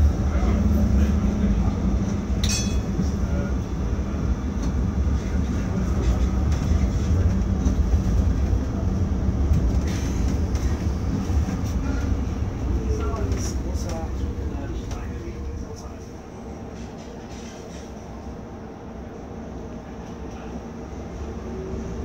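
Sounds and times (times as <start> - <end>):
tram wheels rumbling: 0.0 - 22.0.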